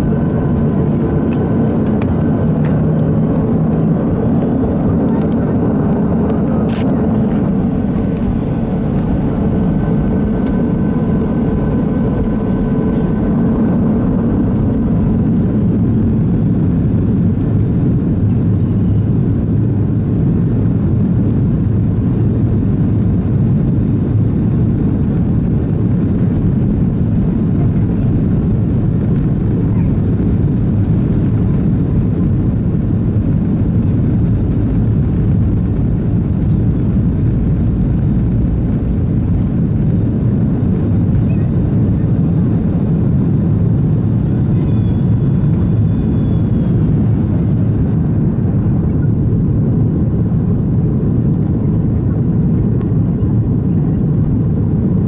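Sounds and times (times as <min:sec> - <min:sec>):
jet engine roar in cabin: 0:00.0 - 0:55.0.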